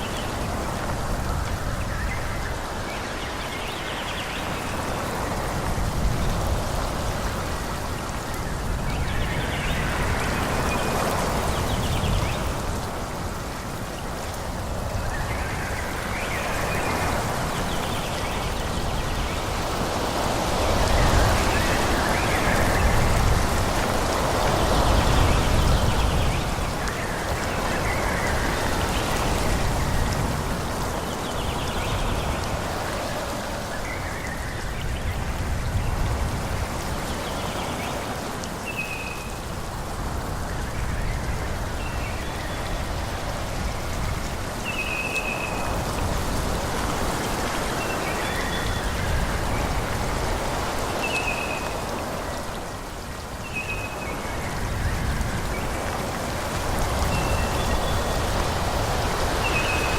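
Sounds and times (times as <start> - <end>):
wind through forest trees: 0.0 - 59.9.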